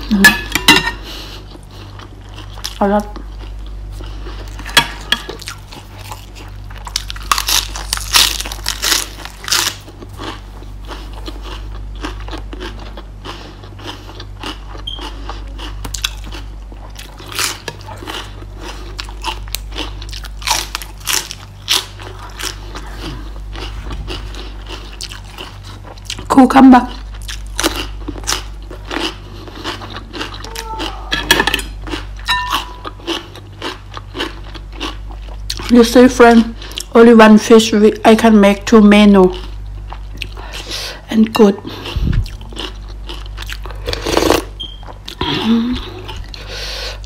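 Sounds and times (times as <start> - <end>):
low steady hum: 0.0 - 47.0
person crunching raw vegetables: 1.2 - 35.8, 41.7 - 47.0.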